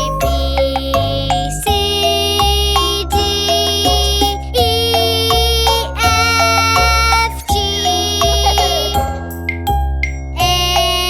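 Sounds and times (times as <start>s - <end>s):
bell-like synthesized melody: 0.0s - 11.0s
steady bass line: 0.0s - 11.0s
upbeat children's song music: 0.0s - 11.0s.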